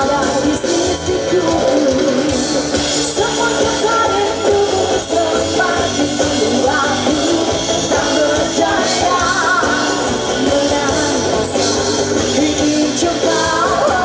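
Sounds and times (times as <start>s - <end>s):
live band playing: 0.0s - 14.0s
person singing: 0.0s - 14.0s.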